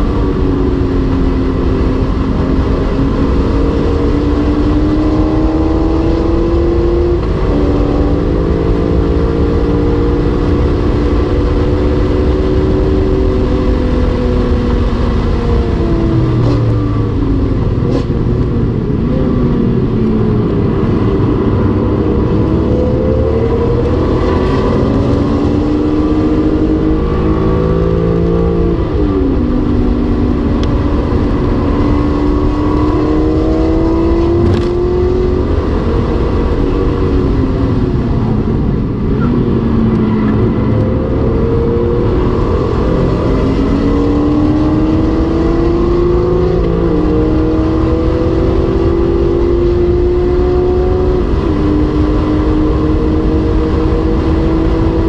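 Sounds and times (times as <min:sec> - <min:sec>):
car engine revving through gears: 0:00.0 - 0:55.0.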